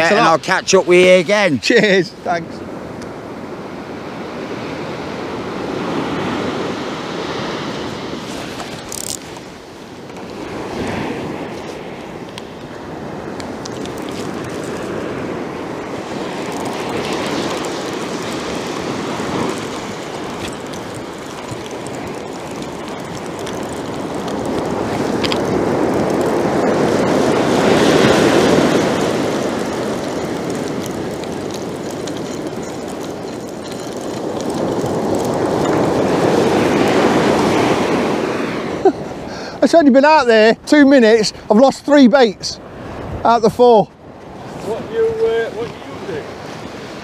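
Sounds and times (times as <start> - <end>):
surf breaking on beach: 0.0 - 47.0.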